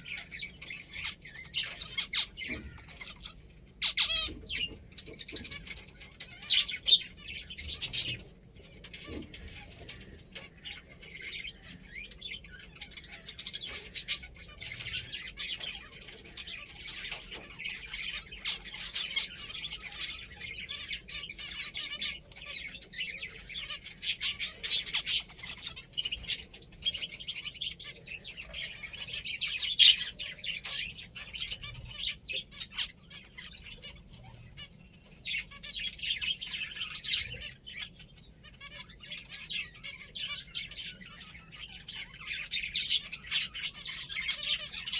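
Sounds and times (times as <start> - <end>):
finches chirping: 0.0 - 44.9.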